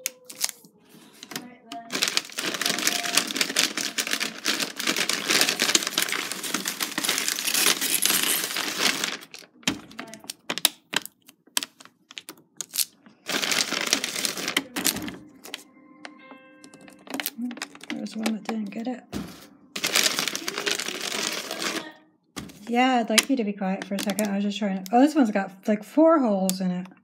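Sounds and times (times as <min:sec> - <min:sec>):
plastic shrink-wrap crinkling: 0:00.0 - 0:15.6, 0:16.6 - 0:25.1
plastic bottles knocking together: 0:01.2 - 0:15.6, 0:16.7 - 0:24.5.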